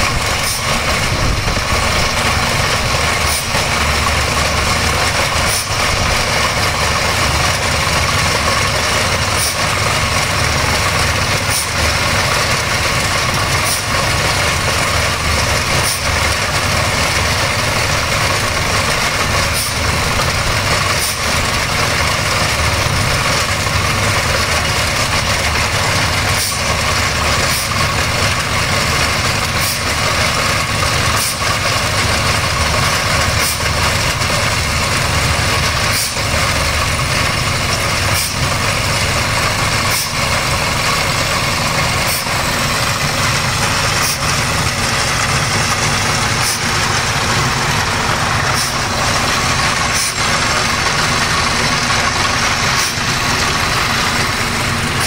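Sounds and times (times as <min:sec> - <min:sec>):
drilling rig running: 0:00.0 - 0:55.0.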